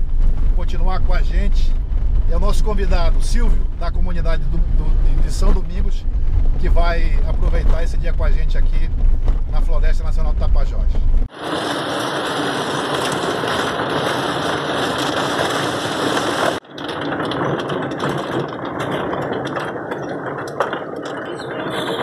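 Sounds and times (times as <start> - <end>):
rattles and knocks: 0.0 - 11.3, 12.9 - 22.0
car driving on dirt road: 0.0 - 22.0.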